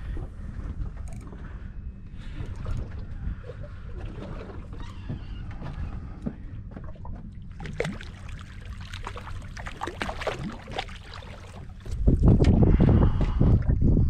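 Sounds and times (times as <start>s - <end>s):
water against hull: 0.0s - 14.0s
wind: 0.0s - 14.0s.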